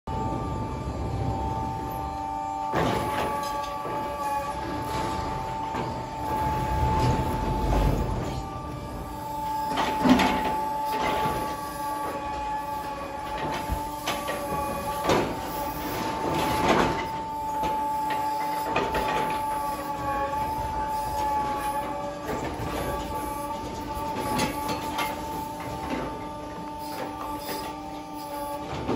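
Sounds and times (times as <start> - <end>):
crane drive whine: 0.1 - 28.9.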